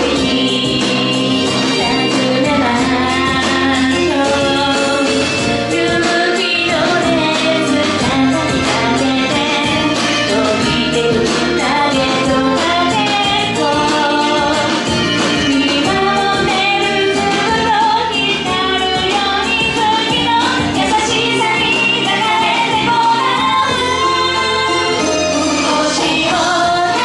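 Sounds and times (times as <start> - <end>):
instrumental accompaniment: 0.0 - 27.0
woman singing pop song: 0.0 - 27.0.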